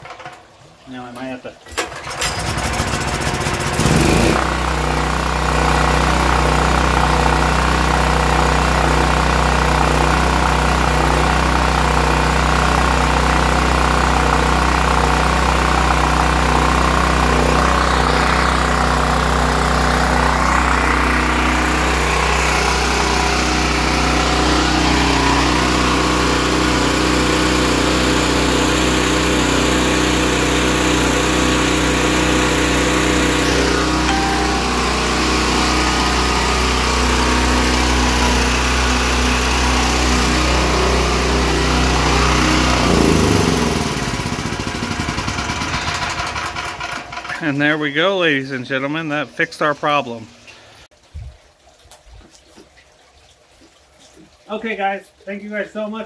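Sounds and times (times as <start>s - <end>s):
generator engine running: 1.8s - 48.5s.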